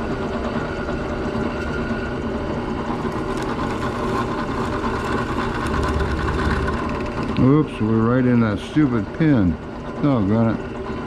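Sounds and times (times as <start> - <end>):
drill press motor humming: 0.0 - 11.0.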